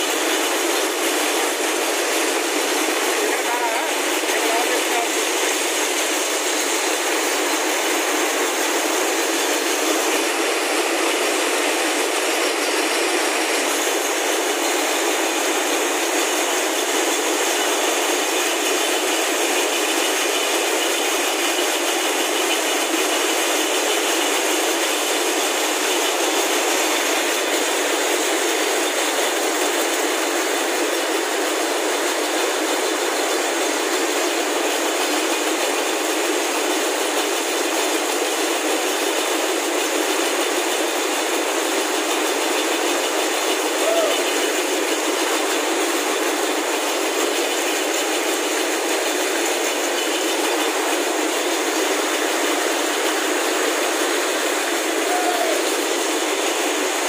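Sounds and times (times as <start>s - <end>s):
spinning machines clattering: 0.0s - 57.0s.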